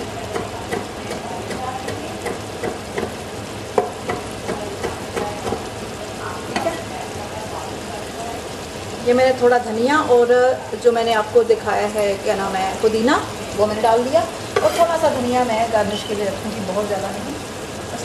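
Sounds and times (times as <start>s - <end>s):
curry sizzling in pot: 0.0s - 18.0s.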